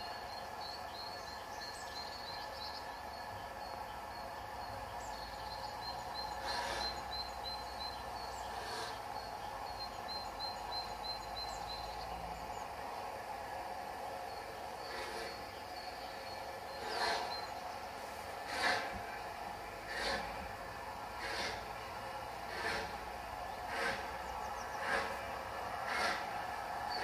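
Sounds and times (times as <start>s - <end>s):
small bird singing: 0.0s - 12.9s, 14.2s - 18.9s, 21.3s - 25.3s
distant steam locomotive rumble: 0.0s - 27.0s
exhaust steam bursts: 5.0s - 27.0s.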